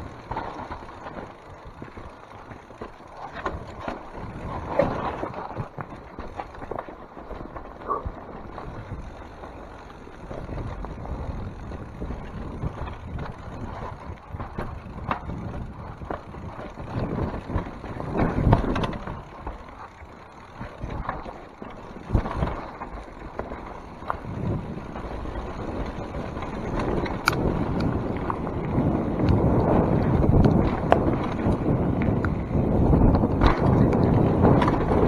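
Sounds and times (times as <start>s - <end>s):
bike knocks and rattles: 0.0s - 35.0s
bike tyre and drivetrain rumble: 0.0s - 35.0s.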